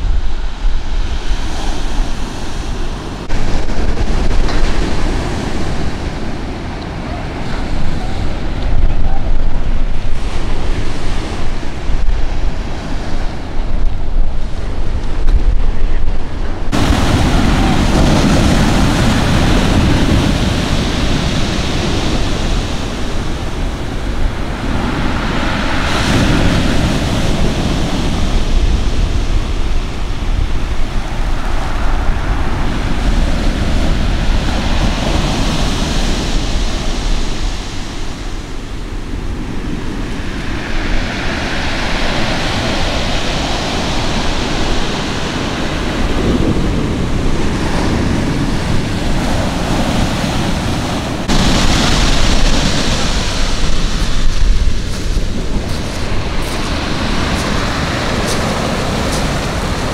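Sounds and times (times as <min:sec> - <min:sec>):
waves breaking on stony beach: 0:00.0 - 0:59.9
wind buffeting microphone: 0:00.0 - 0:59.9.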